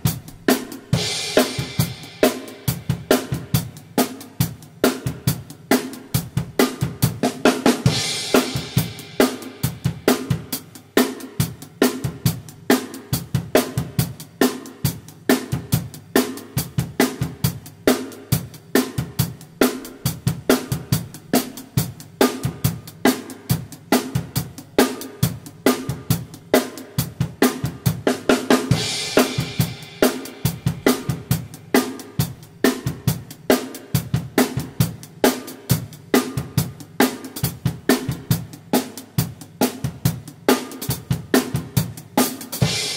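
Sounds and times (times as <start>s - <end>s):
drum kit pop groove: 0.0s - 42.9s.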